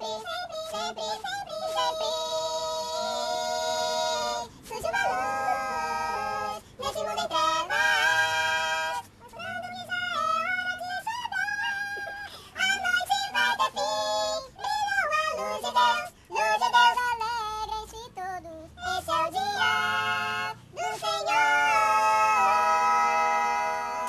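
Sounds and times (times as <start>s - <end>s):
high-pitched voices singing in harmony: 0.0s - 24.0s.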